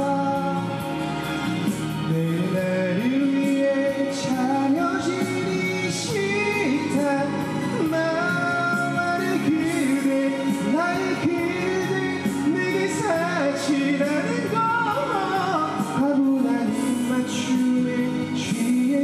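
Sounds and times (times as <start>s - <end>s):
instrumental accompaniment: 0.0s - 19.0s
person singing: 0.0s - 19.0s.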